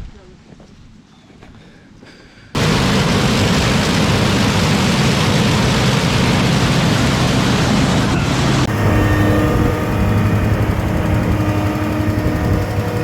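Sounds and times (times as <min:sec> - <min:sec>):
diesel engine running at high speed: 0:02.6 - 0:13.0.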